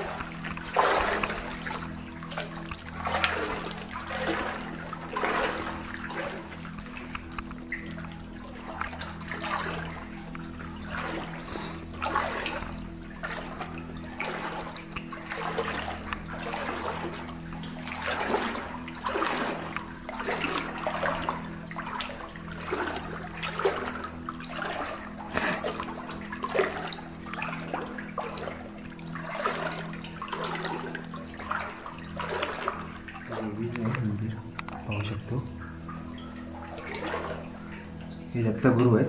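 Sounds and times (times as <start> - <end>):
steady low hum: 0.0 - 39.0
water sloshing and splashing: 0.0 - 39.0.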